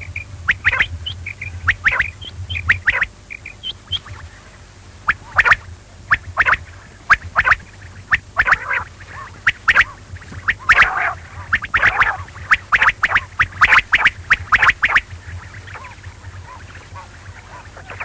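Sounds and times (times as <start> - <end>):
low steady hum: 0.0 - 18.0
quail calling: 0.0 - 18.0.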